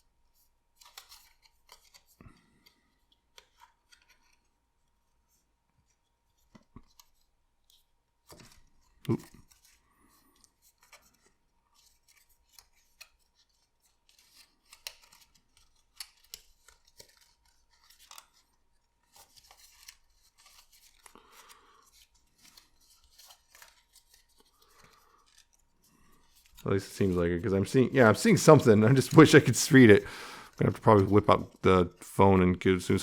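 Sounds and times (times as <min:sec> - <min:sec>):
card paper folding and creasing: 0:00.0 - 0:33.0
small paper crinkles and clicks: 0:00.3 - 0:30.0.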